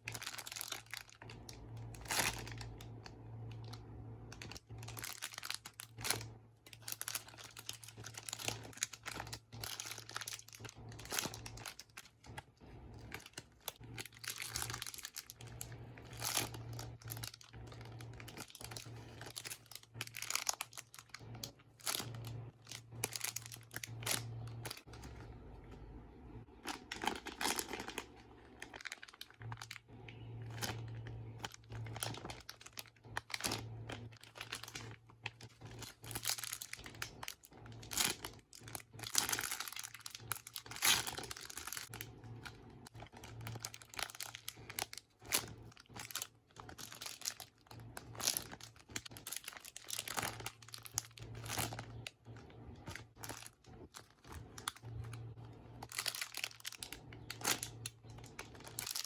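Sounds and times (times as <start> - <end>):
plastic packaging crinkling: 0.0 - 59.0
low hum: 0.3 - 38.1, 47.0 - 59.0.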